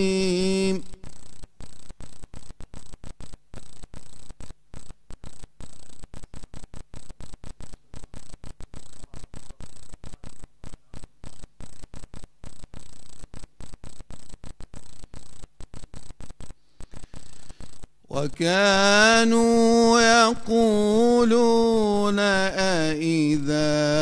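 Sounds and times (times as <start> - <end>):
faint high whine: 0.0 - 24.0
steady hiss: 0.0 - 24.0.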